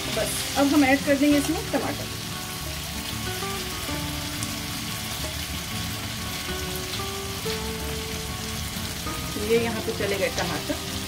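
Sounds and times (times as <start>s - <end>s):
potatoes sizzling in oil: 0.0s - 11.0s
soft background music: 0.0s - 11.0s.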